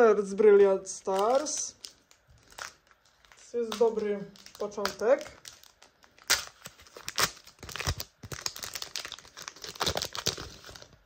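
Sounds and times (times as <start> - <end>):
foil wrapper crinkling: 1.0 - 11.0.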